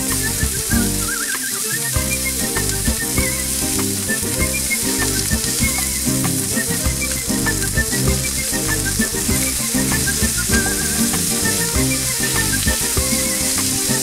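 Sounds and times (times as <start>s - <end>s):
background music with beat: 0.0s - 14.0s
patties sizzling in oil: 0.0s - 14.0s.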